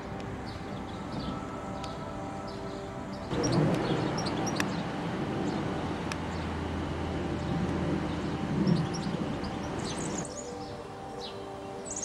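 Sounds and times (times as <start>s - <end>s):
low outdoor rumble: 0.0s - 10.9s
songbirds chirping: 0.0s - 12.0s.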